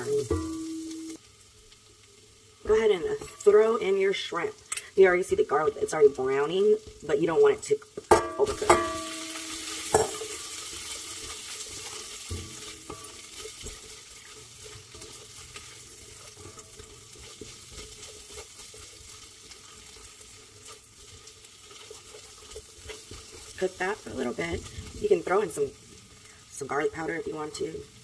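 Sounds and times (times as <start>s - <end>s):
shrimp sizzling in butter: 0.0s - 28.0s.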